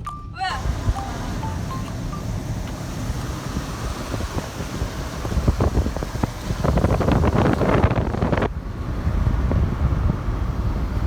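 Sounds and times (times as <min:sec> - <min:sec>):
crackling wind gusts: 0:00.6 - 0:11.0
wind buffeting microphone: 0:00.6 - 0:11.0.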